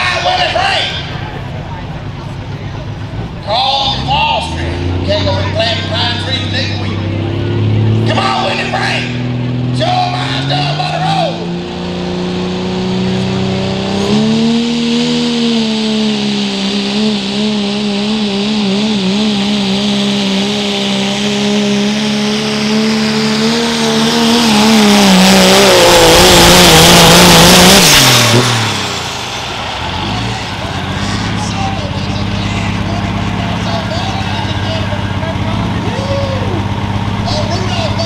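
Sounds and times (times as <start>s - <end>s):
diesel truck engine at full throttle: 0.0s - 38.0s
loud rushing roar: 0.0s - 38.0s.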